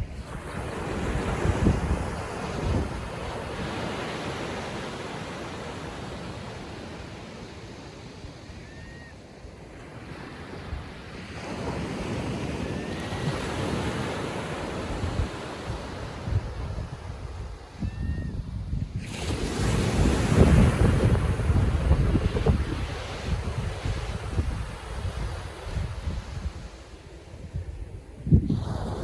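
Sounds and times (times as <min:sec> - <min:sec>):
wind buffeting microphone: 0:00.0 - 0:06.5, 0:10.1 - 0:29.0
ocean surf washing onto beach: 0:00.0 - 0:08.6, 0:09.2 - 0:17.8, 0:18.5 - 0:29.0.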